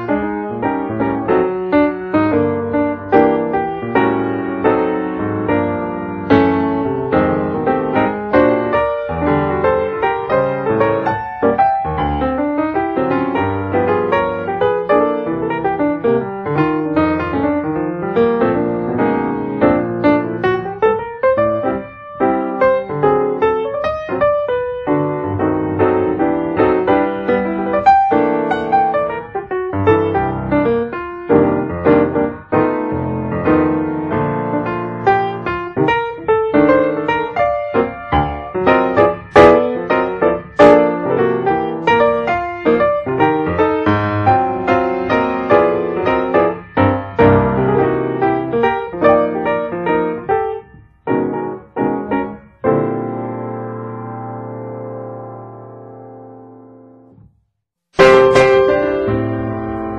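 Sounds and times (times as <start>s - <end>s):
piano melody: 0.0s - 57.3s, 58.0s - 59.9s.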